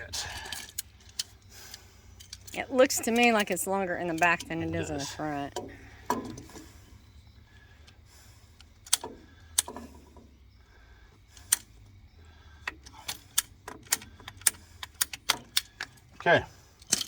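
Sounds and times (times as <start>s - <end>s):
sharp metallic clicks and clinks: 0.1s - 7.1s, 7.8s - 10.3s, 12.5s - 17.0s.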